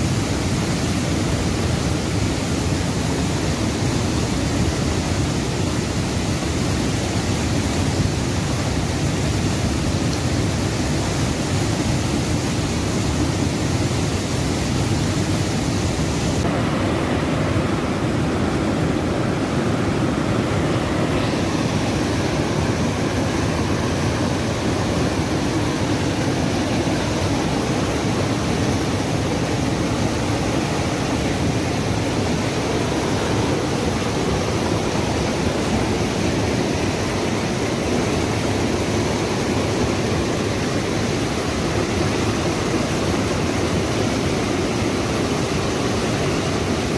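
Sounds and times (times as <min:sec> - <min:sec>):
river rapids rushing: 0:00.0 - 0:46.9.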